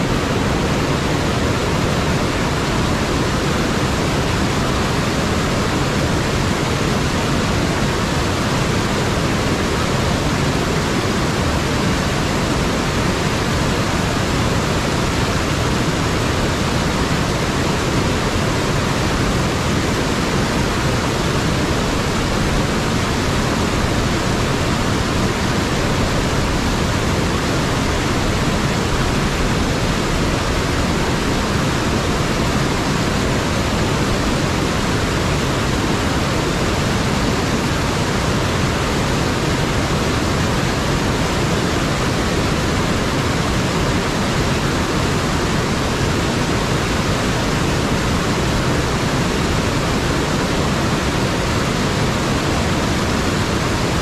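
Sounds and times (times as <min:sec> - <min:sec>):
water roaring over rocks: 0:00.0 - 0:54.0.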